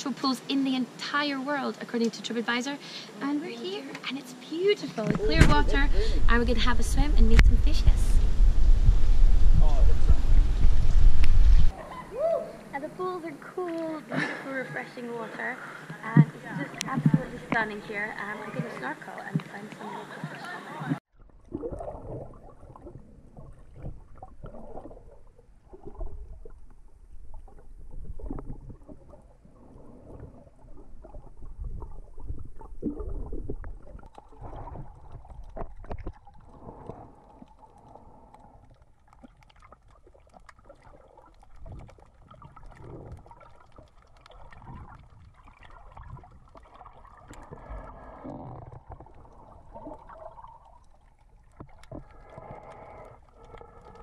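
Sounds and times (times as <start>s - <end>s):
underwater gurgling and sloshing: 4.5s - 12.0s, 12.6s - 54.0s.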